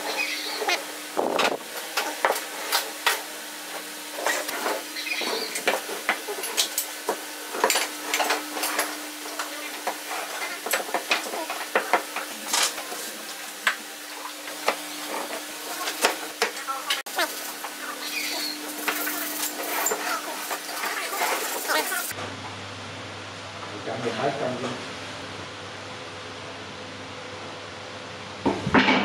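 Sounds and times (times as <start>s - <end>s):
steady low hum: 0.0s - 28.7s.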